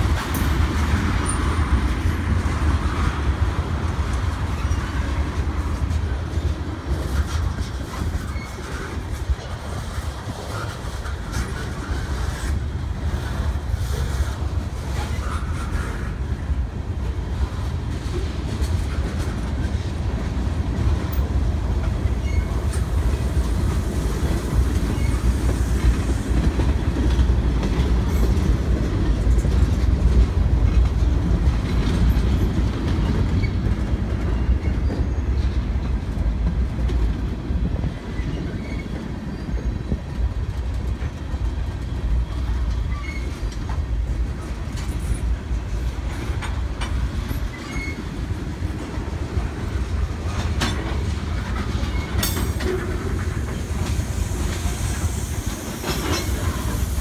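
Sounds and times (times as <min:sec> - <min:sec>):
wheels clacking over rail joints: 0:00.0 - 0:57.0.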